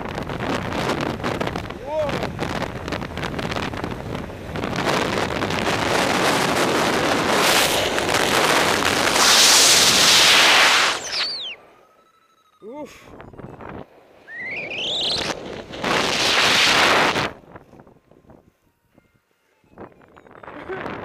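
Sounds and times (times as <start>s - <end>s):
strong rushing wind: 0.0s - 11.6s, 13.1s - 18.5s.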